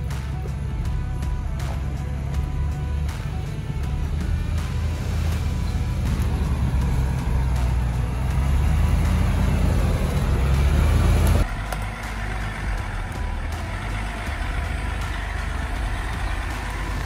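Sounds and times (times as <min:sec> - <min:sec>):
loud engine running: 0:00.0 - 0:17.0
steady vehicle noise: 0:00.0 - 0:17.0.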